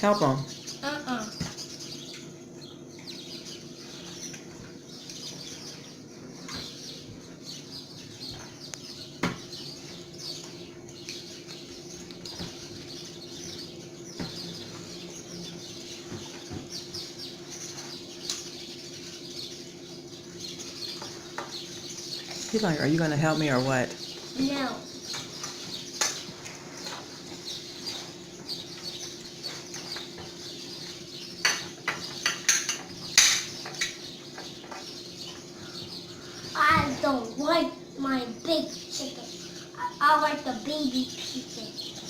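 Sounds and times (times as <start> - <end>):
small birds chirping: 0.0 - 42.0
steady low hum: 0.0 - 42.0.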